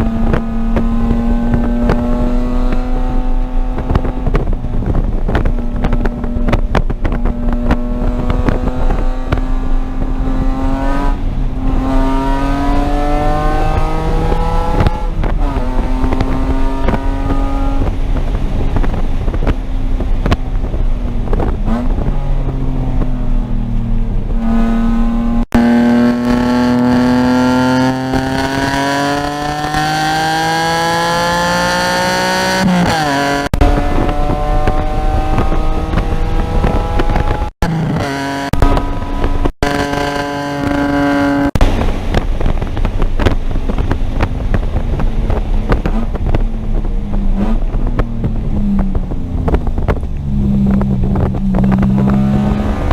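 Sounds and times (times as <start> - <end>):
car engine revving through gears: 0.0 - 52.9.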